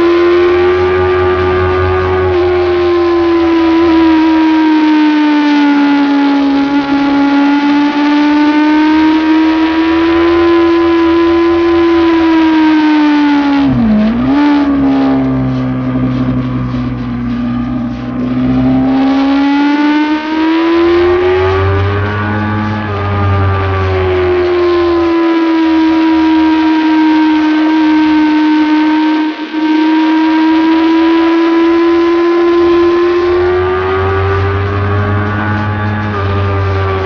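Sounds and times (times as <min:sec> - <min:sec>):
motorcycle engine at high revs: 0:00.0 - 0:37.0.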